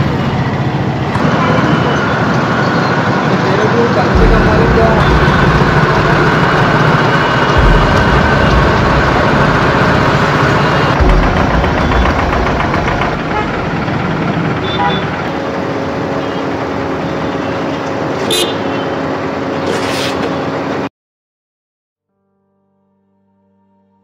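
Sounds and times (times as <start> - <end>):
road traffic engines: 0.0 - 20.9.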